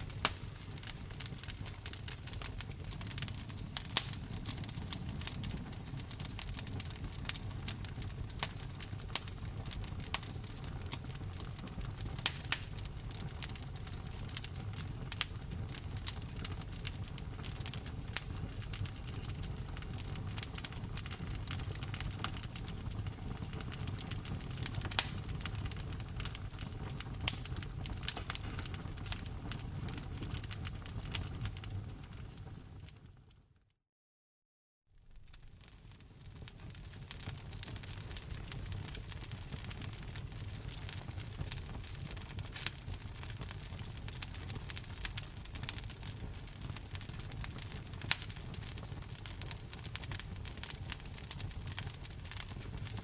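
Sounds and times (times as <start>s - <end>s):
wood fire crackling: 0.0s - 33.1s, 35.0s - 53.0s.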